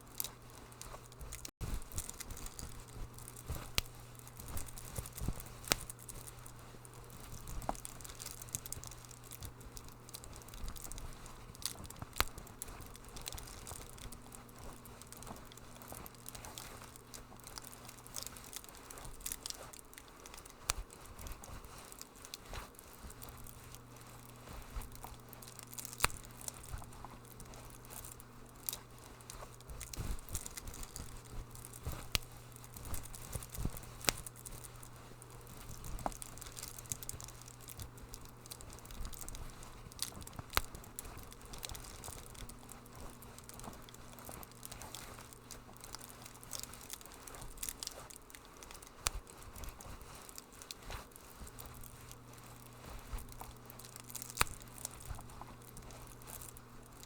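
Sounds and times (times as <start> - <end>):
low steady hum: 0.0 - 57.0
wood fire crackling and popping: 0.0 - 57.0.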